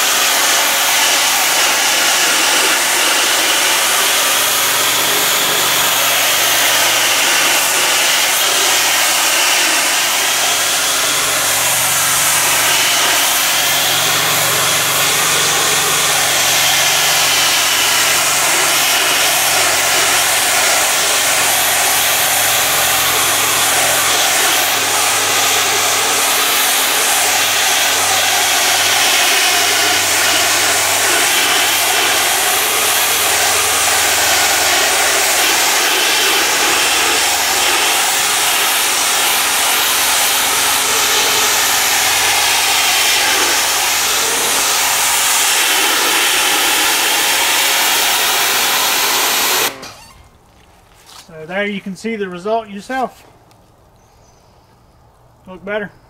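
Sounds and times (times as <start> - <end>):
pressure washer spraying siding: 0.0 - 53.6.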